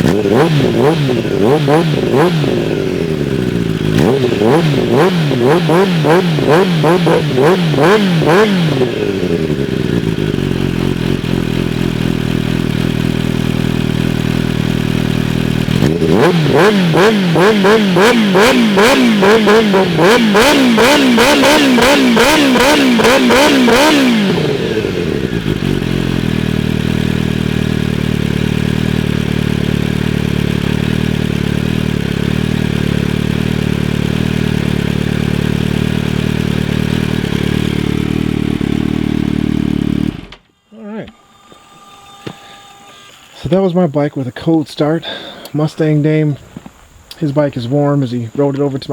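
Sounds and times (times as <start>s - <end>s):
motorcycle engine idling and revving: 0.0s - 45.5s.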